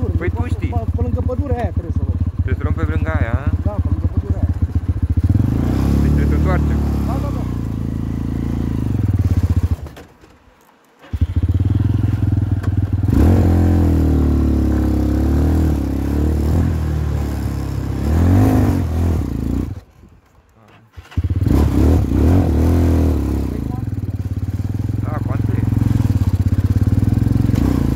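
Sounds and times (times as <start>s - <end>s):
atv engine revving: 0.0s - 10.1s, 11.0s - 19.9s, 20.7s - 27.9s.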